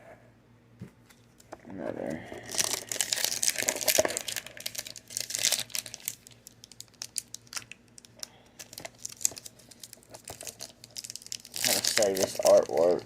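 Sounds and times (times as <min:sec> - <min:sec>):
foil wrapper crinkling: 0:02.4 - 0:13.0.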